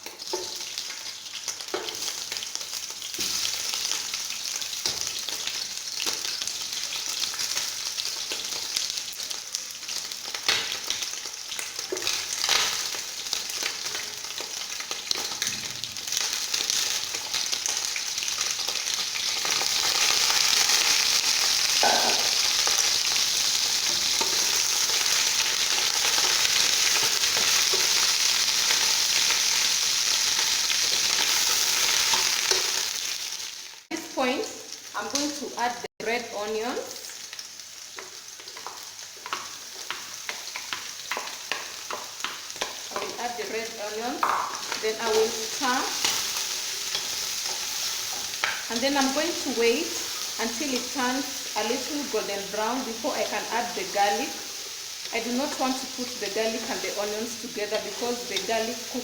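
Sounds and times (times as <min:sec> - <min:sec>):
chicken sizzling in oil: 0:00.0 - 0:59.0.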